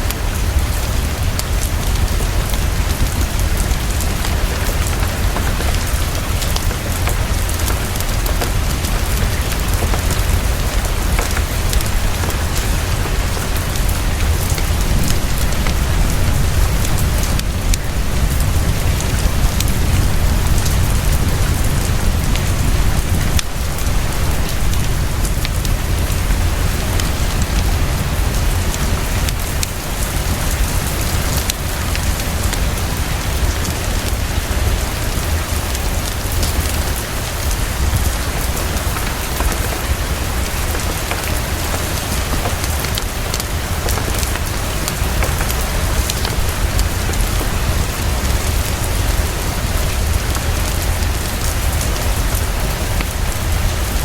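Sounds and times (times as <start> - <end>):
heavy rainfall: 0.0 - 54.0
wood fire crackling: 0.0 - 54.0.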